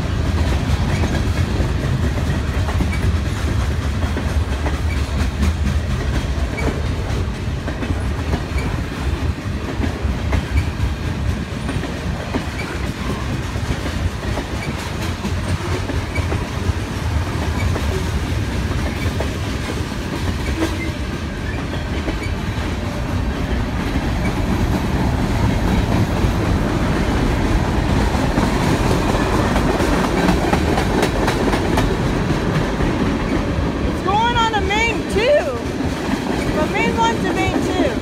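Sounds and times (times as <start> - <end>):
freight train rumbling past: 0.0 - 38.0
wheels clicking over rail joints: 0.0 - 38.0.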